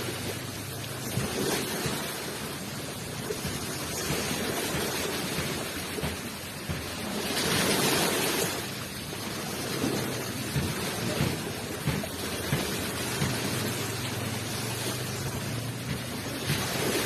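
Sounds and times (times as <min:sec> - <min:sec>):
ocean surf washing ashore: 0:00.0 - 0:17.0.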